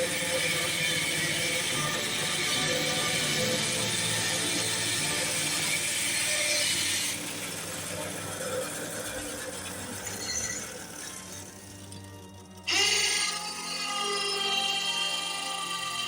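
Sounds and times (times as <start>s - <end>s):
sawmill cutting wood: 0.0s - 16.0s.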